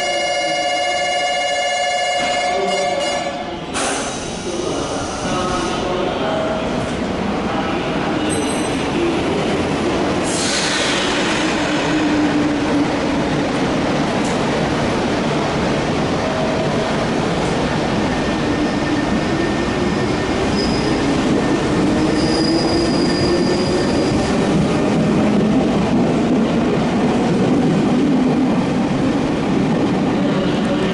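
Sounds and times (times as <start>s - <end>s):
train wheels rumbling on rails: 2.1s - 30.9s.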